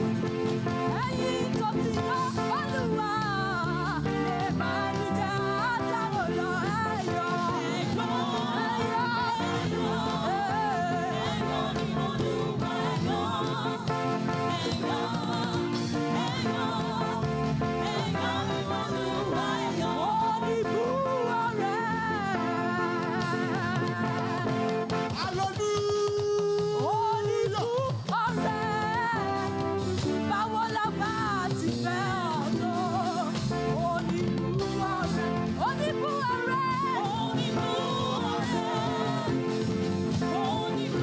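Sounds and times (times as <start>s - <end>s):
band playing: 0.0s - 41.0s
voices singing praise song: 0.0s - 41.0s.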